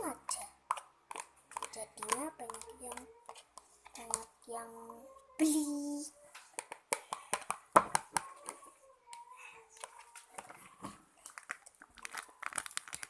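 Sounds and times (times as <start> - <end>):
clicks and taps of mixing: 0.0 - 5.0, 6.4 - 13.0.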